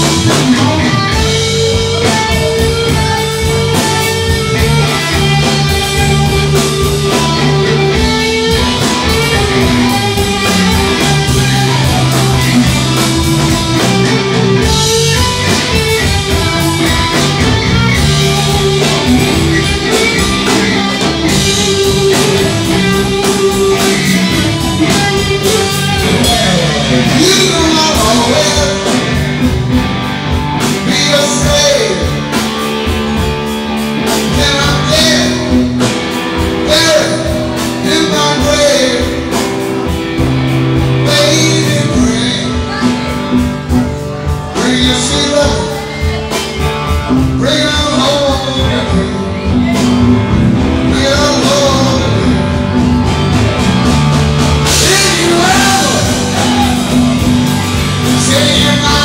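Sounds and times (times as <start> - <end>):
drums: 0.0 - 59.0
electric guitar with bent notes: 0.0 - 59.0.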